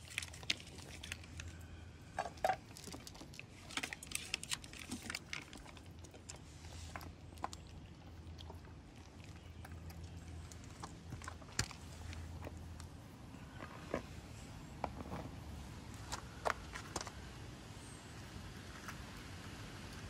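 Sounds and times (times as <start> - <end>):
cat chewing and crunching: 0.0 - 20.0.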